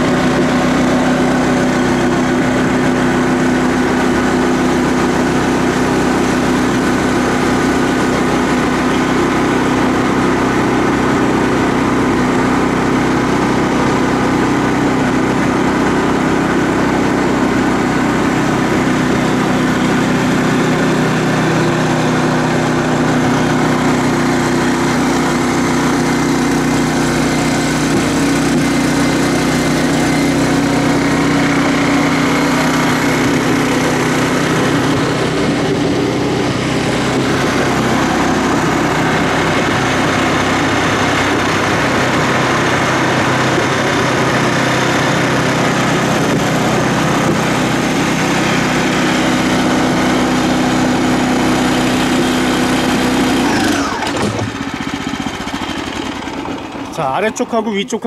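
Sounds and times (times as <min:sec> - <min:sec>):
small engine droning steadily: 0:00.0 - 0:58.0.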